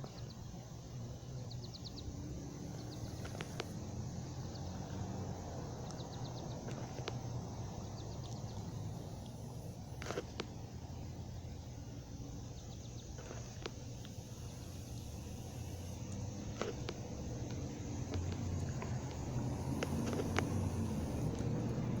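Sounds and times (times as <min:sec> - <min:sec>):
low rumble of distant traffic: 0:00.0 - 0:22.0.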